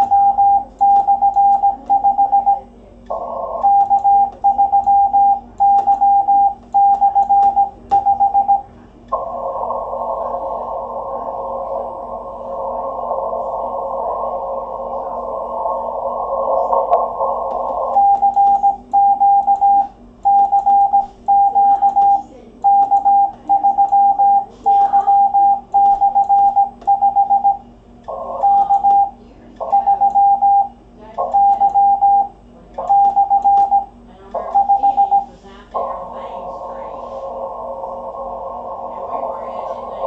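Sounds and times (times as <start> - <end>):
morse code tone: 0.0 - 35.9.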